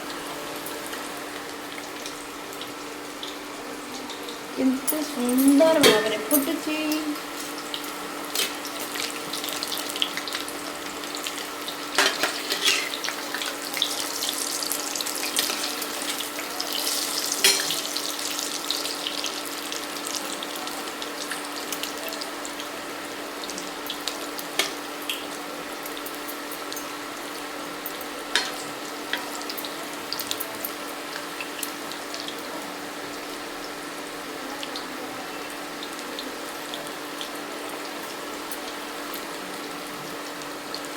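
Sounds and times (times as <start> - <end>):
food deep-frying in oil: 0.0 - 40.9.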